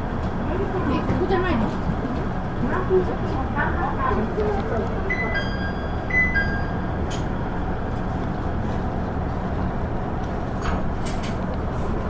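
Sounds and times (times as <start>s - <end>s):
diesel railcar rumbling: 0.0s - 12.0s.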